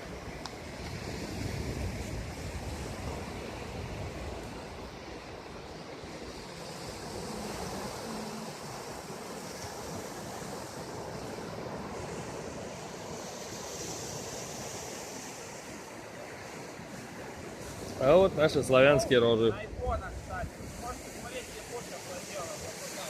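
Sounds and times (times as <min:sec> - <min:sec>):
surf rushing: 0:00.0 - 0:23.0
wind on microphone: 0:00.0 - 0:23.0.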